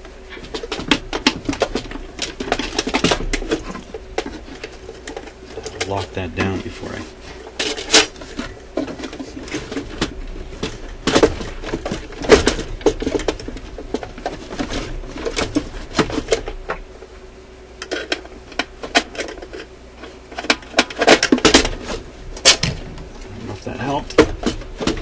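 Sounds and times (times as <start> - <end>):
record player mechanism clicking and rattling: 0.0 - 16.9, 17.8 - 25.0.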